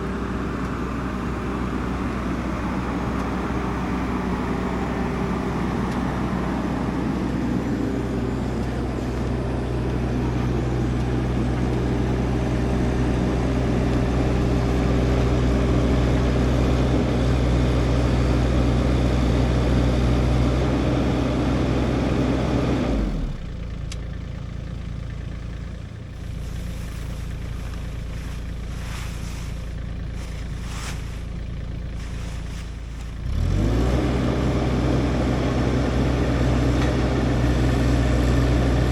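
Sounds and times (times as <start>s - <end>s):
engine running and idling: 0.0s - 38.9s.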